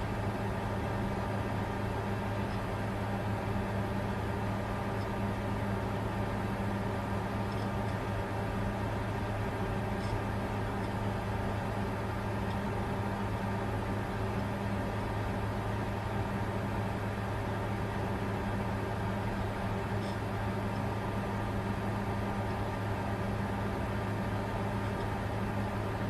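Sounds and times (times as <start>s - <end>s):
cooling fans whirring: 0.0s - 26.0s.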